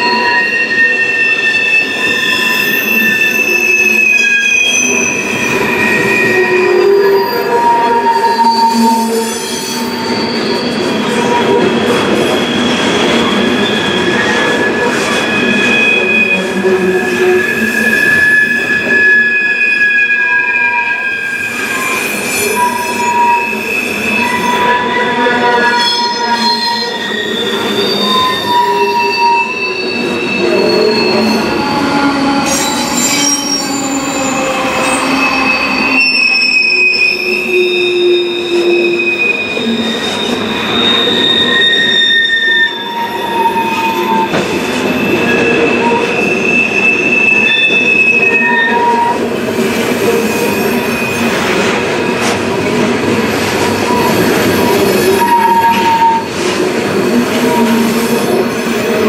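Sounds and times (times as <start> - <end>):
train wheels squealing on rails: 0.0 - 59.0.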